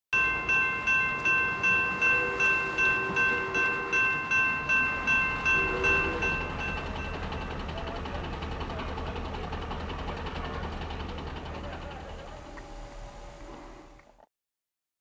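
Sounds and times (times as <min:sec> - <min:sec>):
railroad crossing bell ringing: 0:00.1 - 0:13.4.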